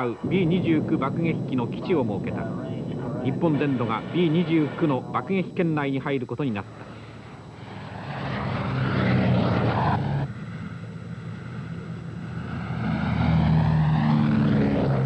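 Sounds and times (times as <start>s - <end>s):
propeller aircraft droning overhead: 0.0s - 15.0s.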